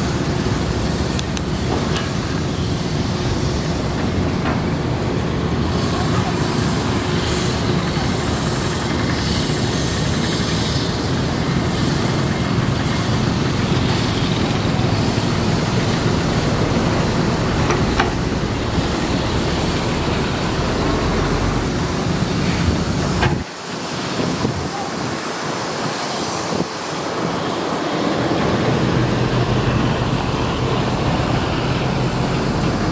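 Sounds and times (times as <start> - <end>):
excavator diesel engine: 0.0 - 32.9
hydraulics working: 0.0 - 32.9.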